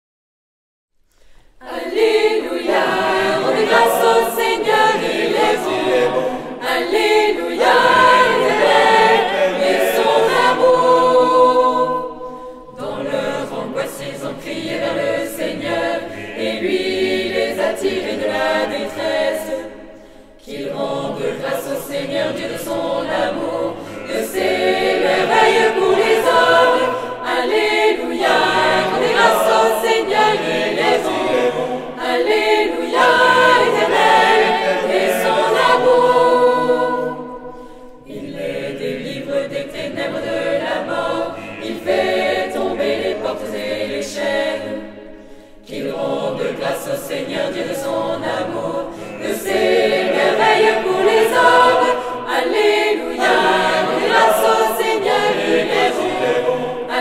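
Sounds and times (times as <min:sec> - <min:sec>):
choir singing unaccompanied: 0:01.5 - 0:57.0.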